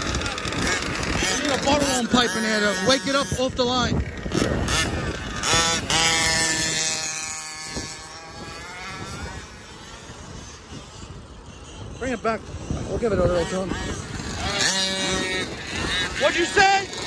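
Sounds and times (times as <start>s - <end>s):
rc car engine revving: 0.0s - 17.0s.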